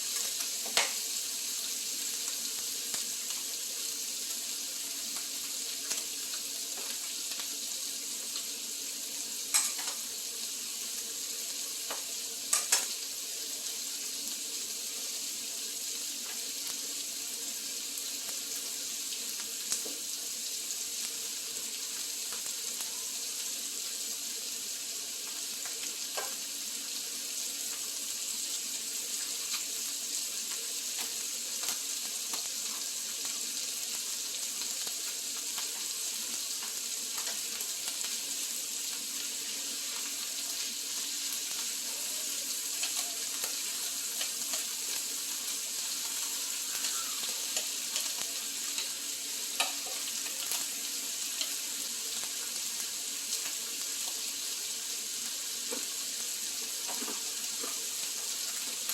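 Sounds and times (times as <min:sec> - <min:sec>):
meat sizzling in a pan: 0:00.0 - 0:58.9.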